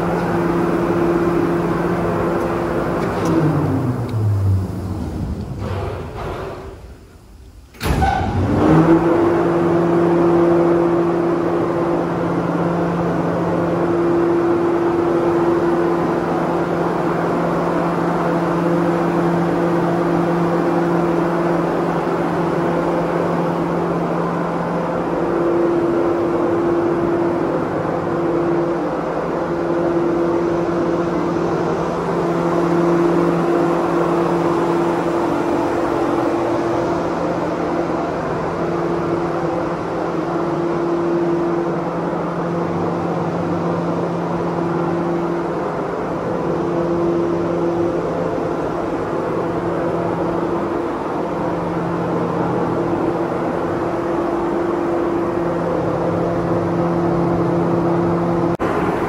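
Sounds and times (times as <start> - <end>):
ventilation fan running: 0.0 - 59.0.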